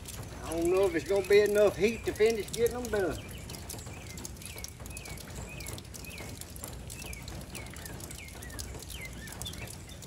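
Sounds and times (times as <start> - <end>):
bird chirping: 0.4 - 10.0.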